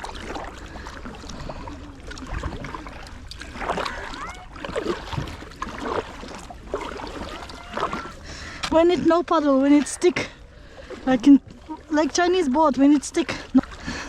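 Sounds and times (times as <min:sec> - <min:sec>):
paddle splashing in water: 0:00.0 - 0:14.0.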